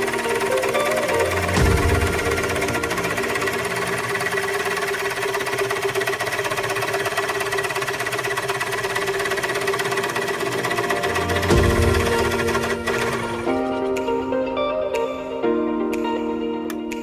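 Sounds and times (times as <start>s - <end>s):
hole cutter rattling in wood: 0.0s - 13.7s
drill press motor whine: 0.0s - 13.8s.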